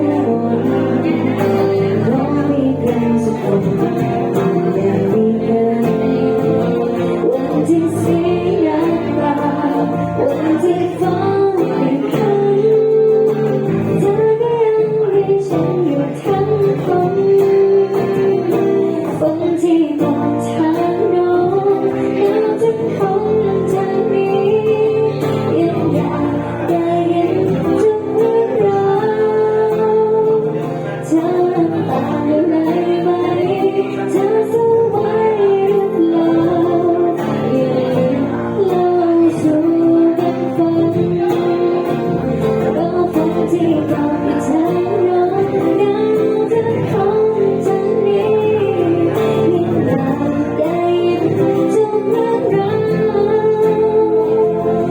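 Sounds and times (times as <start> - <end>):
guitar: 0.0 - 54.9
woman singing: 0.0 - 54.9.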